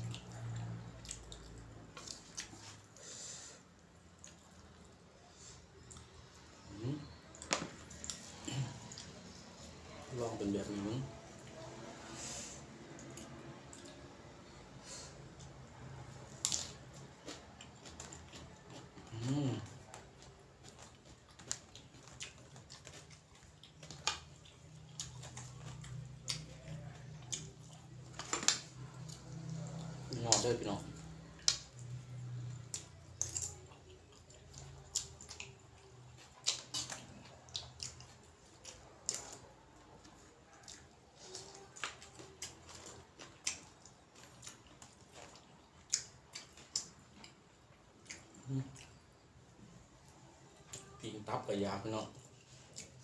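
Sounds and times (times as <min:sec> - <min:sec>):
person chewing food: 0:00.0 - 0:51.4, 0:52.0 - 0:53.0.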